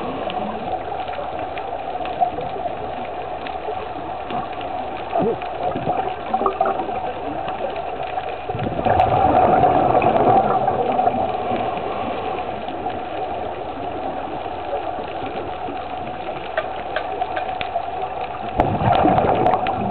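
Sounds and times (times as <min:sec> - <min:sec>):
underwater water rush: 0:00.0 - 0:19.9
faint clicks: 0:00.2 - 0:08.7, 0:10.9 - 0:19.9.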